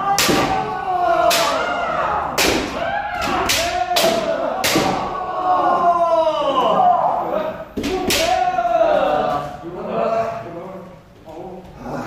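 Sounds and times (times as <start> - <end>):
people shouting: 0.0 - 10.2.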